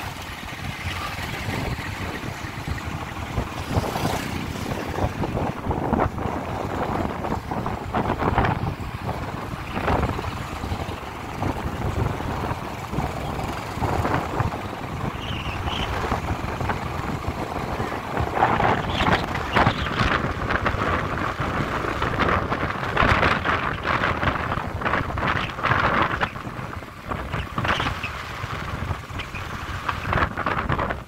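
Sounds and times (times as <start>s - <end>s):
low vehicle rumble: 0.0s - 31.0s
wind buffeting microphone: 0.0s - 31.0s.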